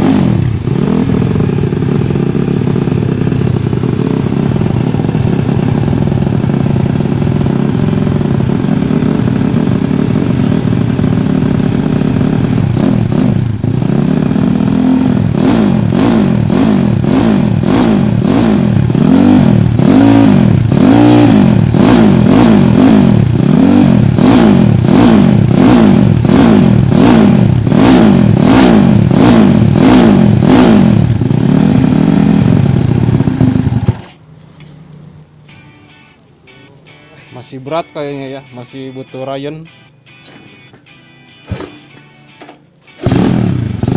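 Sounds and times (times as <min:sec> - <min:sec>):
motorcycle engine revving: 0:00.0 - 0:34.7, 0:41.4 - 0:43.9.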